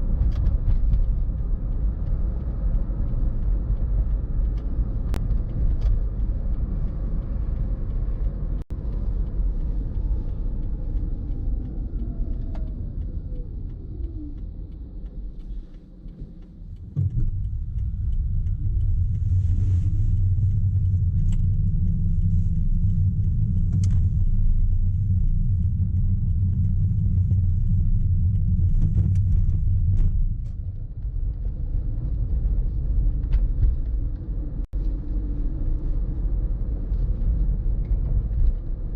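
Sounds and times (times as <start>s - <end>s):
car rumbling on road: 0.0s - 38.9s.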